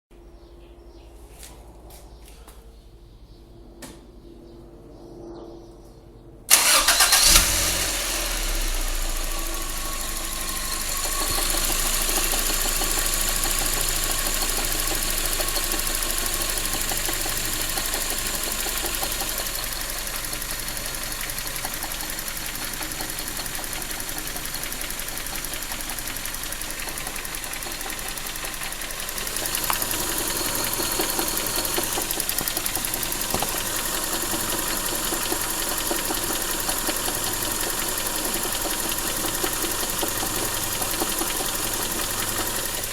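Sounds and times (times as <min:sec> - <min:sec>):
car engine idling: 0:06.5 - 0:42.9
engine knocking: 0:06.5 - 0:42.9.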